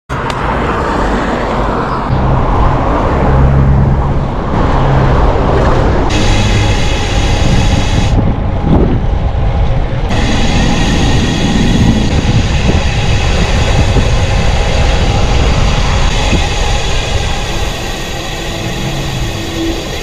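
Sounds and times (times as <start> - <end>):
vehicle rumbling along road: 0.1 - 20.0.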